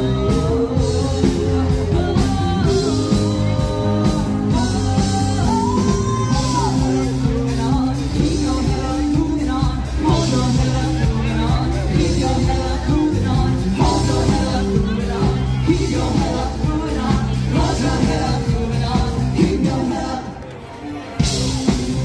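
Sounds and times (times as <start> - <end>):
person singing: 0.0 - 20.6
rock band playing: 0.0 - 22.0.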